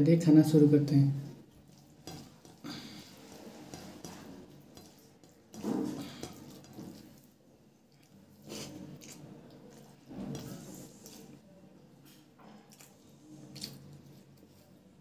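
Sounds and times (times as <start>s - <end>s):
person eating: 1.4s - 11.5s, 12.6s - 15.0s
fingers squishing rice and curry: 1.4s - 15.0s.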